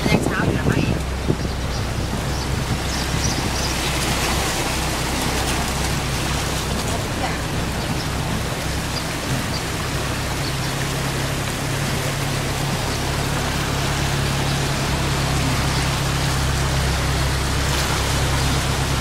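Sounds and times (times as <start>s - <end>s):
vehicle engine running: 0.0s - 19.0s
water rushing and splashing: 0.0s - 19.0s.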